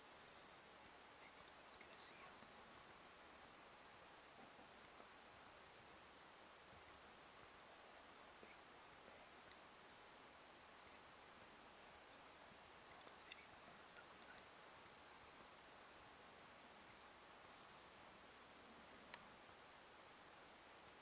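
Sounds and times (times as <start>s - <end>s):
field insects chirping: 0.0s - 21.0s
low background hiss: 0.0s - 21.0s.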